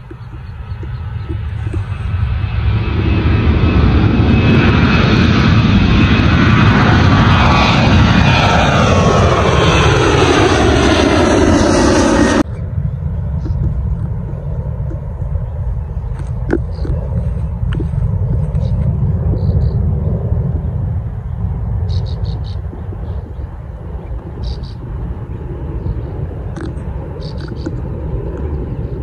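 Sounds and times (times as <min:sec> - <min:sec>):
jet engines at take-off: 0:00.0 - 0:29.0
low rumble: 0:00.0 - 0:29.0.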